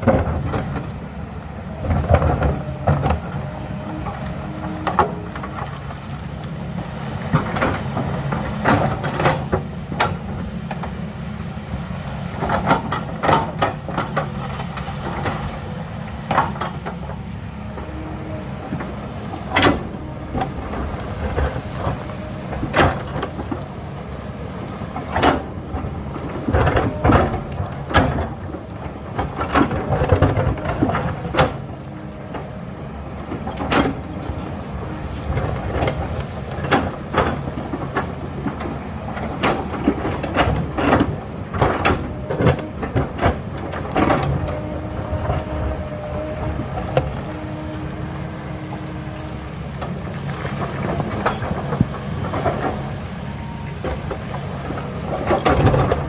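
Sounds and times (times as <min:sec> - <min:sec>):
diesel engine running under load: 0:00.0 - 0:56.0
digging knocks and clanks: 0:01.7 - 0:56.0.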